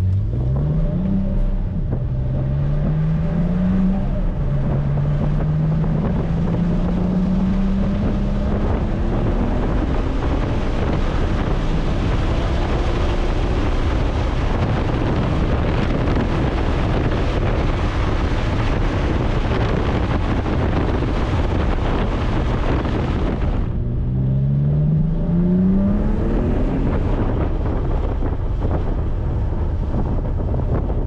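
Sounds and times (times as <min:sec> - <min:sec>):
car engine accelerating: 0:00.0 - 0:31.0
wind noise: 0:00.0 - 0:31.0.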